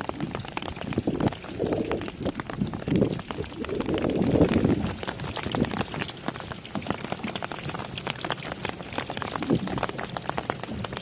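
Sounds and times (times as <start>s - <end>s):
rain drops ticking: 0.0s - 11.0s.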